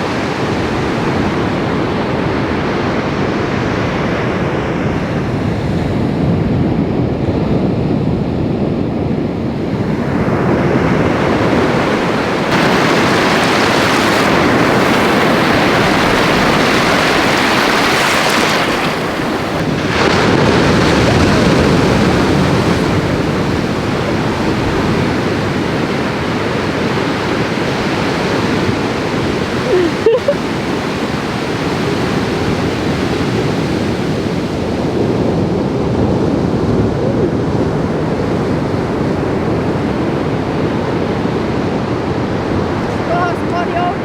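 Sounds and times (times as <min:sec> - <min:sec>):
loud rushing outdoor noise: 0:00.0 - 0:44.0.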